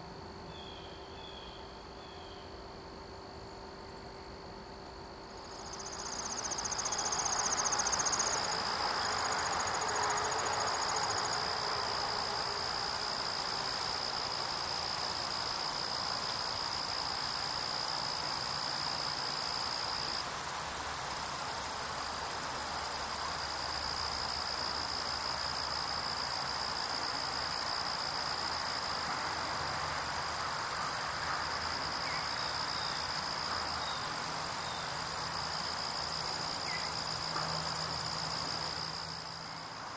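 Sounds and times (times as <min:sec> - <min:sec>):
crickets trilling: 0:00.0 - 0:39.9
soft steady hiss: 0:00.0 - 0:39.9.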